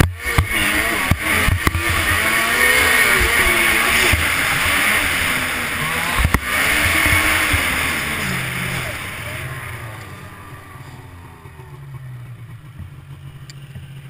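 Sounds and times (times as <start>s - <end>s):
snowmobile engine running: 0.0s - 14.0s
steady rush of noise: 0.0s - 14.0s.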